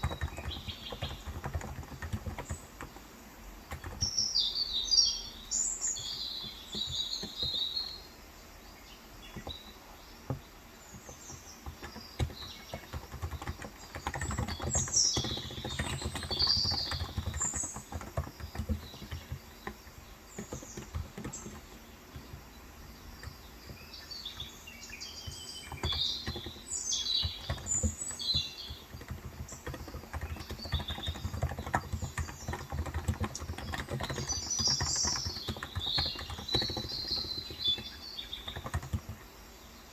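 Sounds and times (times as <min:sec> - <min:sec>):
typing on a keyboard: 0:00.0 - 0:04.3, 0:05.8 - 0:08.0, 0:10.3 - 0:39.5
small birds chirping: 0:00.0 - 0:39.9.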